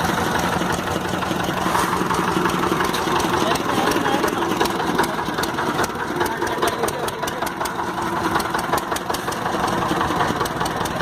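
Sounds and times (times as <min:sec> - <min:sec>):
boat engine knocking: 0:00.0 - 0:11.0.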